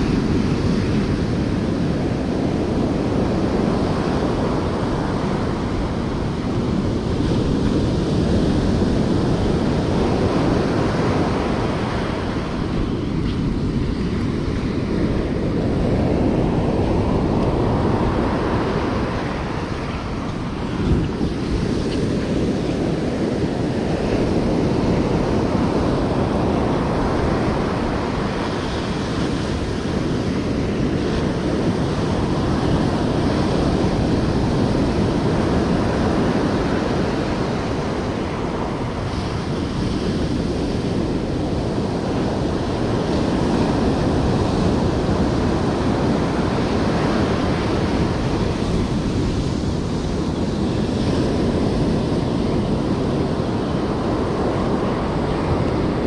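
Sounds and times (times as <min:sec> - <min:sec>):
surf breaking on beach: 0:00.0 - 0:56.0
wind buffeting microphone: 0:00.0 - 0:56.0.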